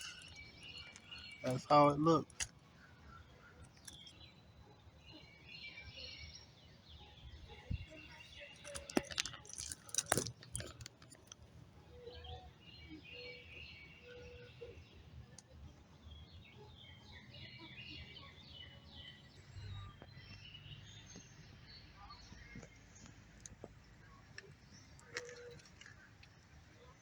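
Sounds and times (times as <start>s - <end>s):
birds chirping: 0.0s - 27.0s
faint outdoor background noise: 0.0s - 27.0s.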